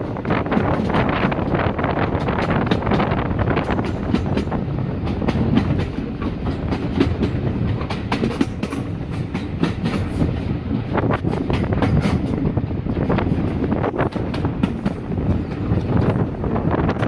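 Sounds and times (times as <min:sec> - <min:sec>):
train coach rumble: 0:00.0 - 0:17.0
wheels clicking over rail joints: 0:00.0 - 0:17.0.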